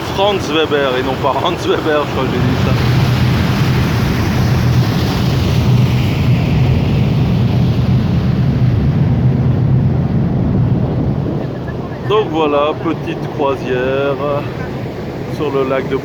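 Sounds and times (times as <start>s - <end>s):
boat engine drone: 0.0s - 16.0s
water noise: 0.0s - 16.0s
wind rushing over microphone: 0.0s - 16.0s.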